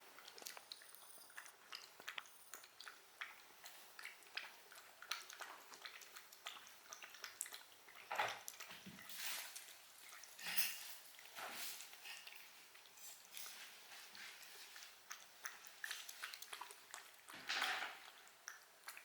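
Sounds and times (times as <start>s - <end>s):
chewing and biting food: 0.0s - 19.0s.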